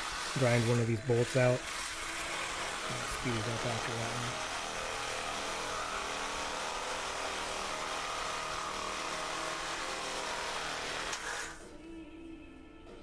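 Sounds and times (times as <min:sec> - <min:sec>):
angle grinder grinding metal: 0:00.0 - 0:11.7.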